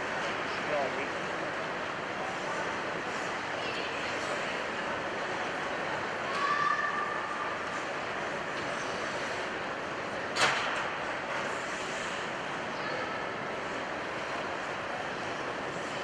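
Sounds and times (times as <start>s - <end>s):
echoing ice arena room noise: 0.0s - 16.0s.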